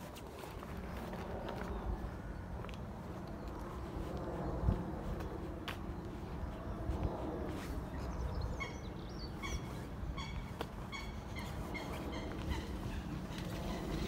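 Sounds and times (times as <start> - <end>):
birds calling: 0.4 - 14.0.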